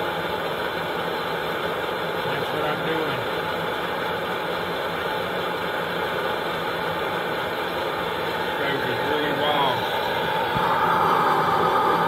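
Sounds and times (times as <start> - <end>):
camping stove burner roaring: 0.0 - 12.0.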